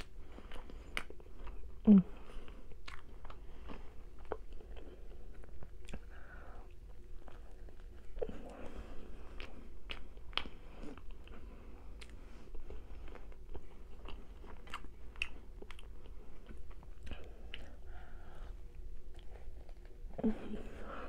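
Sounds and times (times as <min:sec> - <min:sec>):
chewing soft food: 0:00.0 - 0:21.0.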